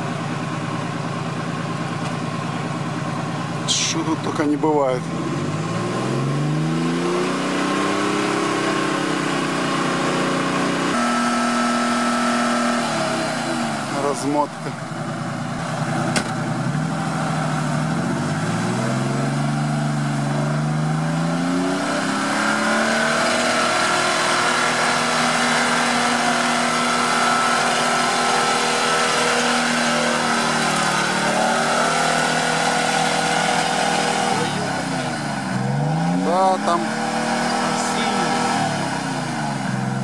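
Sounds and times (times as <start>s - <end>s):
jeep engine revving hard: 3.7s - 40.0s.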